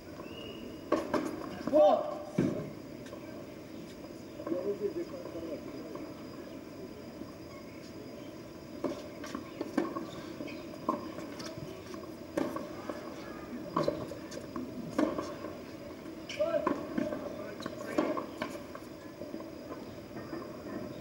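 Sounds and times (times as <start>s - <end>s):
crowd murmur: 1.4s - 21.0s.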